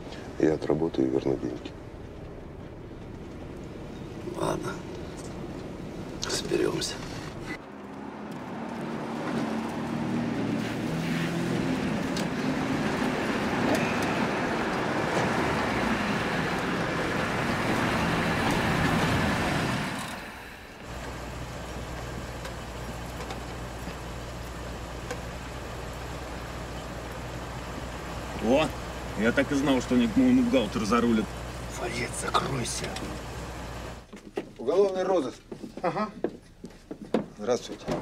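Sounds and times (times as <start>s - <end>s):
low engine hum: 0.0s - 34.1s
old car engines running: 0.0s - 34.3s.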